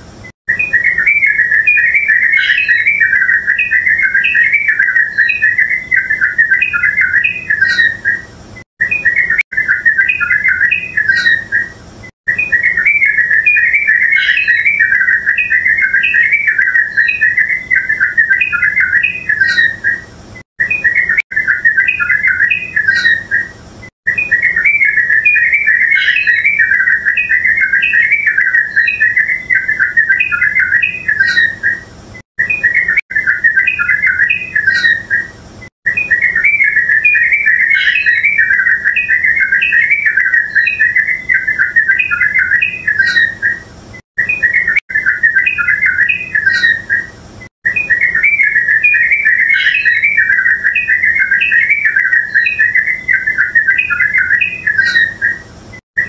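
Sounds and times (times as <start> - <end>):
bird chattering with whistled notes: 0.5 - 56.0.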